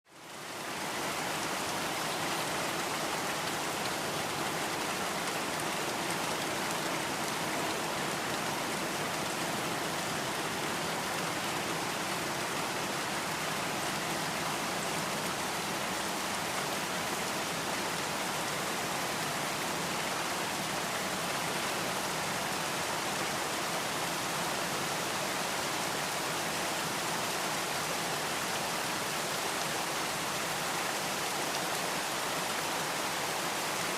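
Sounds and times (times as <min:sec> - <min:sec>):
light rain falling: 0:00.1 - 0:33.9.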